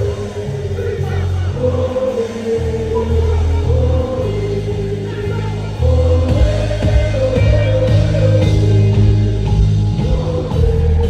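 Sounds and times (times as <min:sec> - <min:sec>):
person singing over heavy bass: 0:00.0 - 0:11.0.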